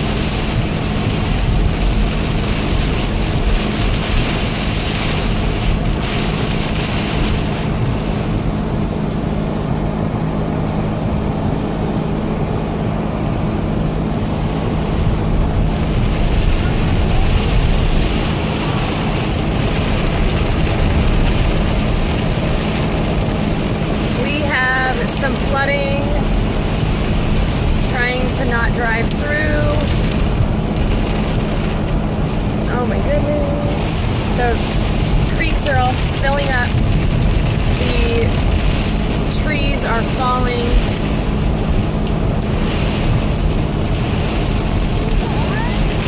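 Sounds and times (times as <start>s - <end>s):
car engine hum: 0.0s - 46.0s
heavy rain: 0.0s - 46.0s
wet road noise: 0.0s - 46.0s.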